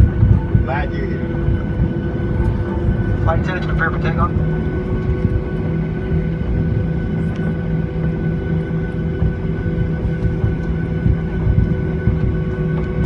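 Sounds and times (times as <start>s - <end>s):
jet engines whining: 0.0s - 13.0s
low uneven rumble: 0.0s - 13.0s.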